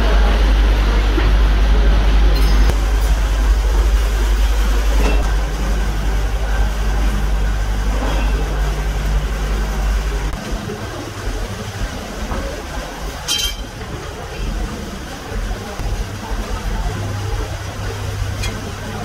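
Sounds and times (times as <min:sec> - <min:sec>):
low machinery rumble: 0:00.0 - 0:19.0.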